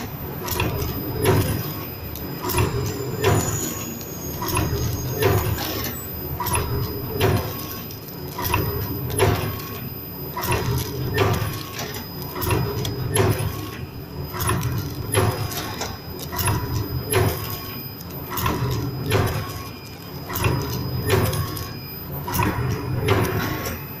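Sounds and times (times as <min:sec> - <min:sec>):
light machine clicks: 0:00.0 - 0:23.8
packing machine metallic clacks: 0:00.0 - 0:24.0
steady motor hum: 0:00.0 - 0:24.0.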